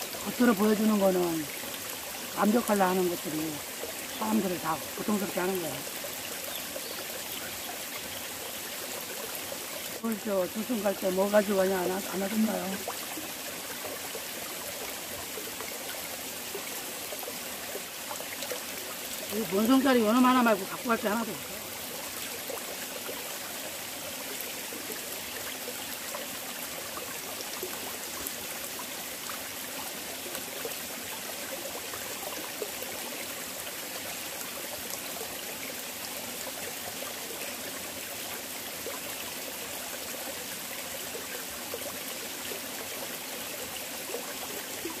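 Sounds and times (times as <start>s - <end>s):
stream running over rocks: 0.0s - 45.0s.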